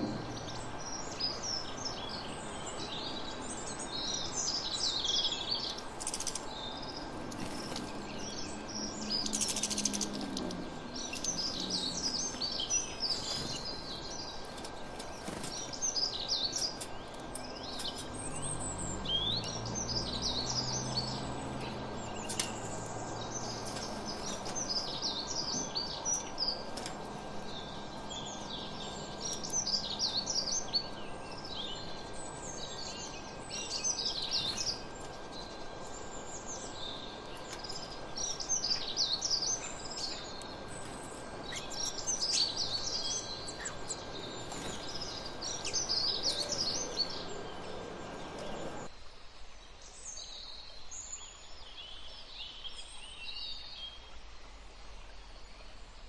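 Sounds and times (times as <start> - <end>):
outdoor background hiss: 0.0 - 56.0
songbirds chirping: 0.0 - 56.0.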